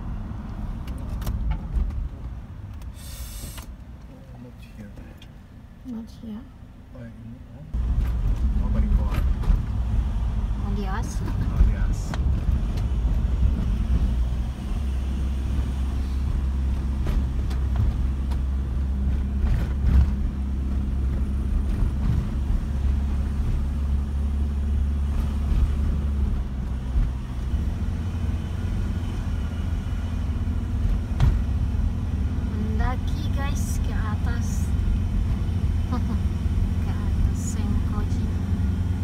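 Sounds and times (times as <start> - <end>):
vehicle engine and road rumble: 0.0 - 39.0.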